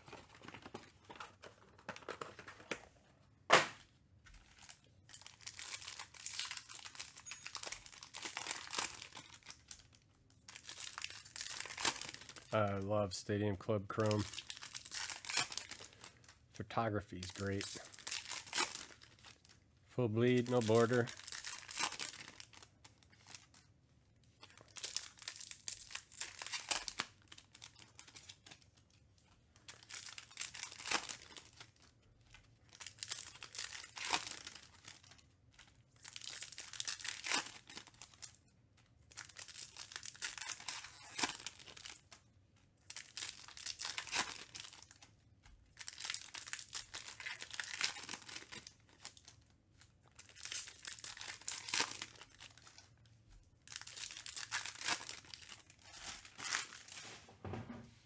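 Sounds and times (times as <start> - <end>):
foil wrappers torn and crinkled: 4.4 - 12.5, 14.0 - 16.5, 17.2 - 19.6, 20.2 - 23.7, 24.4 - 29.0, 29.6 - 38.4, 39.1 - 57.2.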